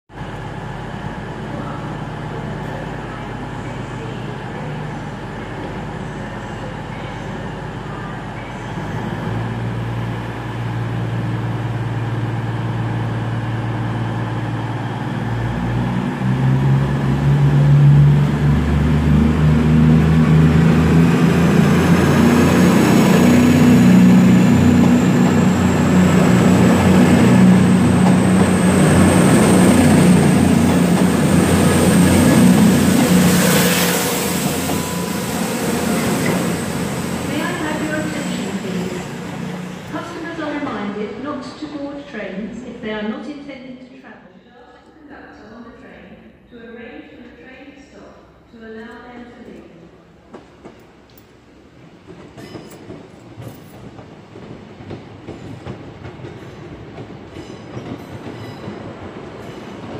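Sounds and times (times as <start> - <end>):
train diesel engines: 0.1 - 43.2, 46.3 - 59.9.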